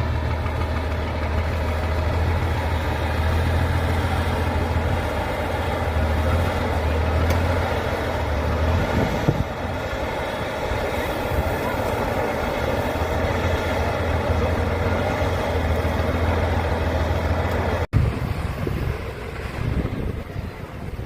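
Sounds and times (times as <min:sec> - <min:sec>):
heavy truck engine droning: 0:00.0 - 0:21.0.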